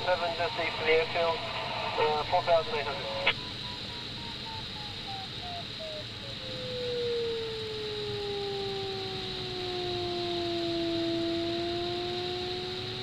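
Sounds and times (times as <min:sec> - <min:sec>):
air rushing around cockpit: 0:00.0 - 0:13.0.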